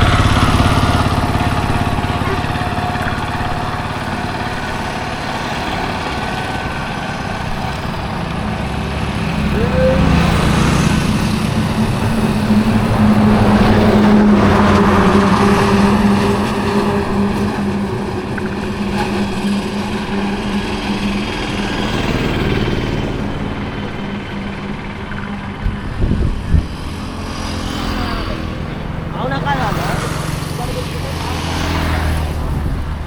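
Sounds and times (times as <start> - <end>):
auto rickshaw engine passing: 0.0 - 33.0
road traffic: 0.0 - 33.0.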